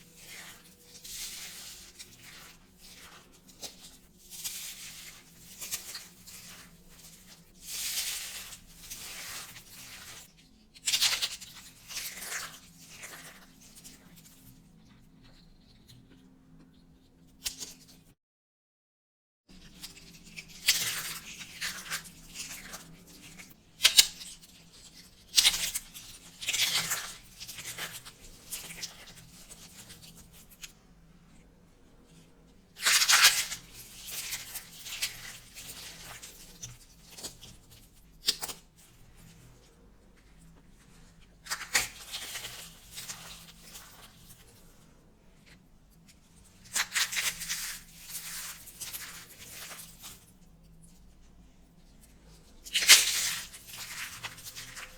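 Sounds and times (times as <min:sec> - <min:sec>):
soap crunching and crackling: 0:00.0 - 0:18.0, 0:19.5 - 0:51.3, 0:51.9 - 0:54.9.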